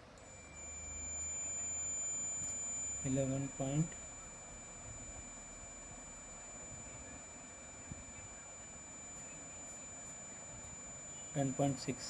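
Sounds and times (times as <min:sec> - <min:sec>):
high-pitched electronic tone: 0:00.2 - 0:12.0.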